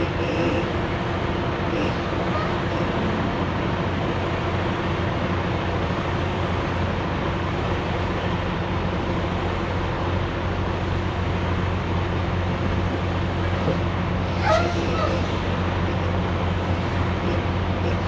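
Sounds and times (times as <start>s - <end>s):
road noise: 0.0s - 18.0s
truck engine droning: 0.0s - 18.0s.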